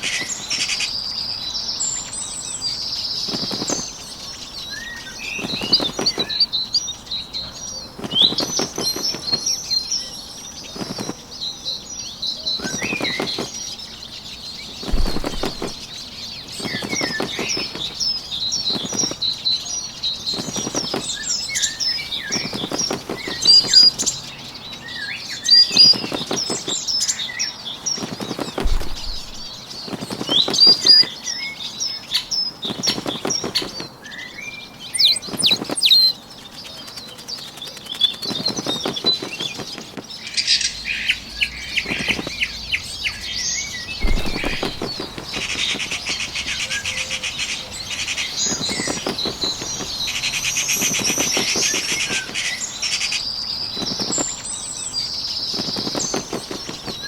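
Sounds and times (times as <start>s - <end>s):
high-pitched birdsong chirping: 0.0s - 57.0s
bird wingbeats fluttering: 2.7s - 34.2s, 34.8s - 57.0s.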